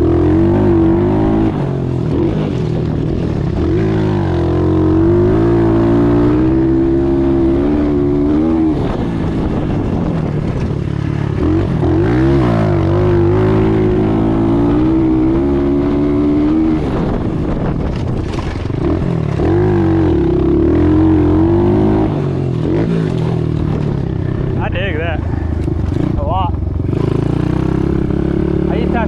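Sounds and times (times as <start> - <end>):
motorbike engine revving: 0.0 - 29.0.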